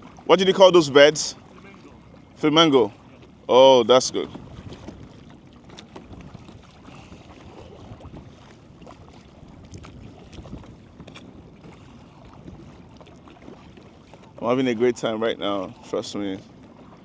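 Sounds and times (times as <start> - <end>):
paddle splashing in water: 0.0 - 17.0
water dripping and lapping: 0.0 - 17.0.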